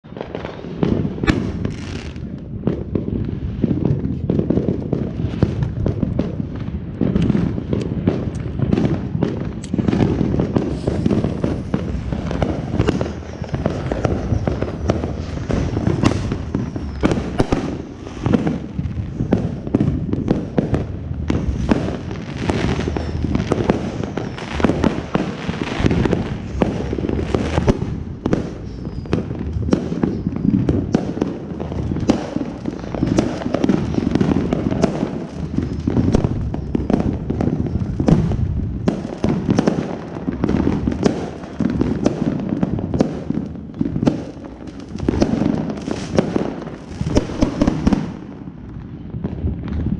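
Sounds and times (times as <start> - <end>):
fireworks popping and banging: 0.0 - 49.9
ground firework spraying sparks: 0.2 - 48.6.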